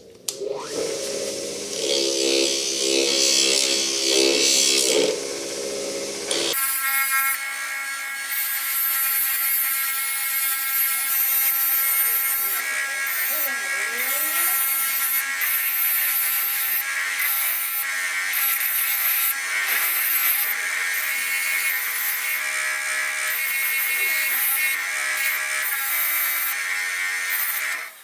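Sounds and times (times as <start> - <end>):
bench grinder motor whine: 0.3 - 28.0.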